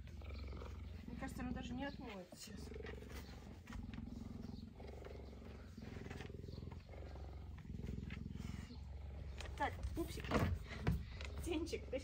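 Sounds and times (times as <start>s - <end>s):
cheetah purring: 0.0s - 12.0s.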